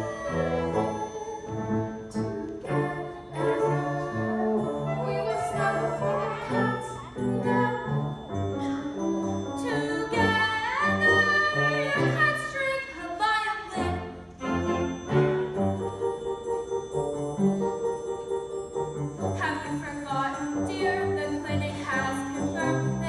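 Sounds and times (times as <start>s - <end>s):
orchestral music: 0.0s - 23.0s.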